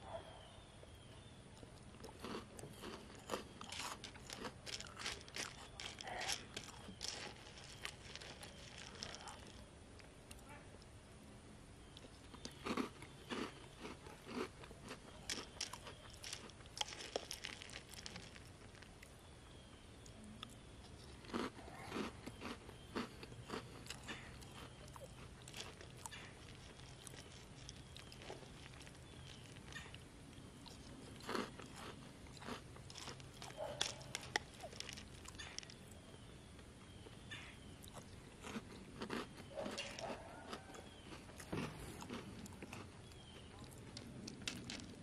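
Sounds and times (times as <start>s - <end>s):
person crunching cereal: 1.8s - 9.7s, 12.2s - 19.0s, 20.8s - 29.9s, 30.6s - 37.2s, 37.8s - 45.0s.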